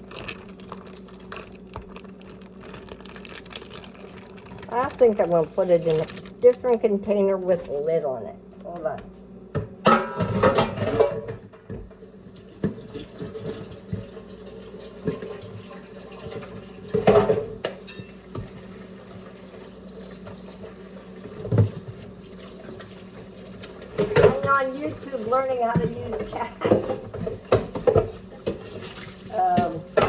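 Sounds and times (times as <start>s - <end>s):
water splashing in sink: 0.0s - 7.6s, 12.3s - 17.4s, 18.4s - 30.0s.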